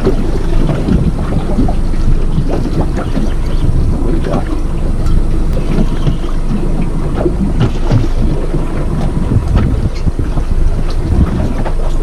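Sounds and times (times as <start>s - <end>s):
low thumps: 0.0s - 12.0s
wind buffeting microphone: 0.0s - 12.0s.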